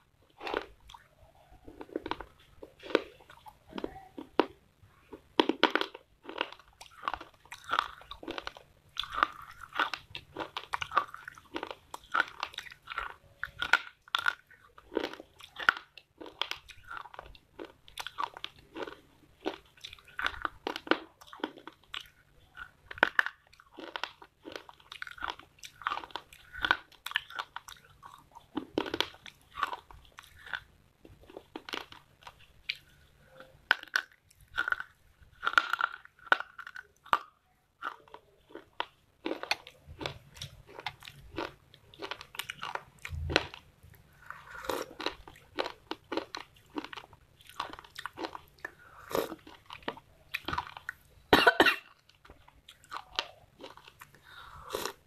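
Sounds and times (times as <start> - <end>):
crunching and chewing clay: 0.0 - 55.0.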